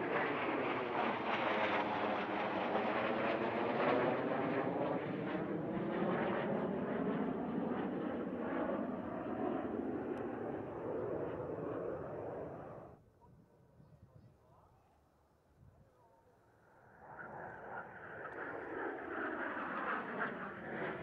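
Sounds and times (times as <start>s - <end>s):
jet fighters flying overhead: 0.0s - 13.0s, 16.5s - 21.0s.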